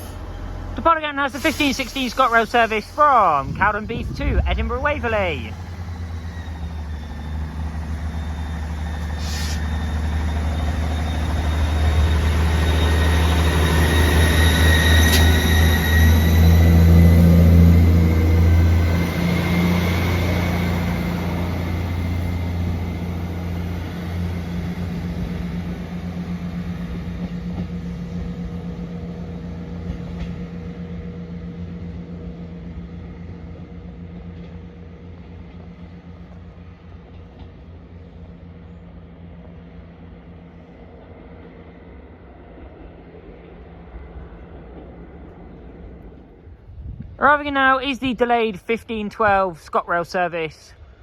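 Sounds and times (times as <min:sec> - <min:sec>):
diesel train engine pulling away: 0:00.0 - 0:47.2.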